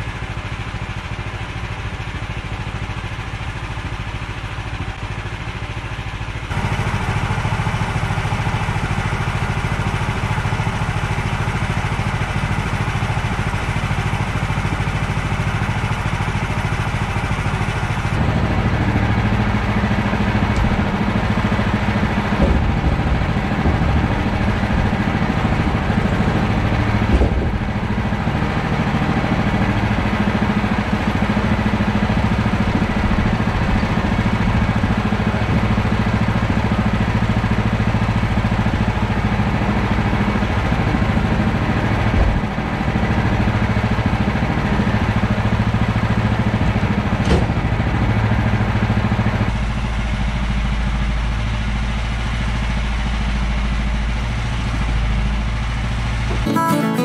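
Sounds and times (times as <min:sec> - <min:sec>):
engine idling: 0:00.0 - 0:56.5.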